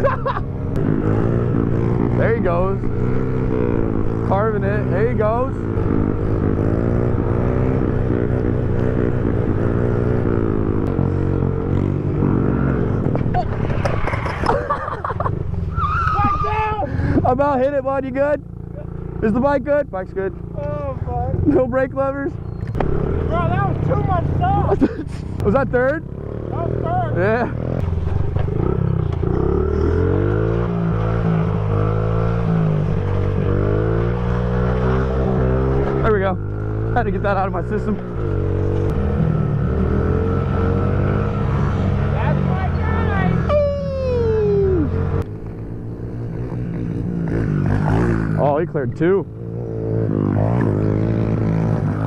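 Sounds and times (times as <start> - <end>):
small motorcycle engine running: 0.0 - 15.5, 16.6 - 52.0.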